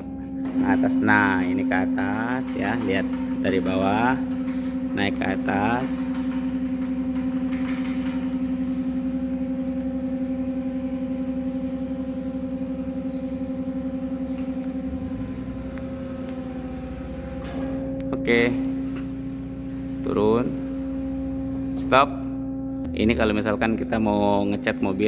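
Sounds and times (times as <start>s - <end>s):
lifter drive motor humming: 0.0s - 25.0s.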